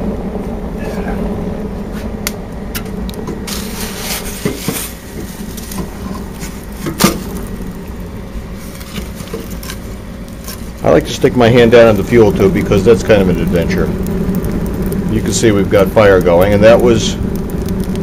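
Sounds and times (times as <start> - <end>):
boiler blower hum: 0.0 - 18.0.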